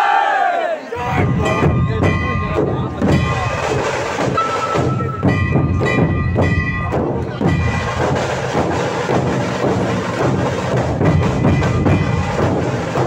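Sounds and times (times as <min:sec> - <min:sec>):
drums beaten in fast rhythm: 0:01.0 - 0:13.0.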